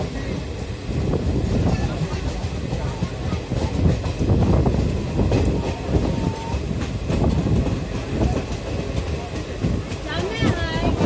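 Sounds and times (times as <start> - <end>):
wheel-on-rail noise: 0.0 - 11.0
wheels clacking over rail joints: 1.4 - 11.0.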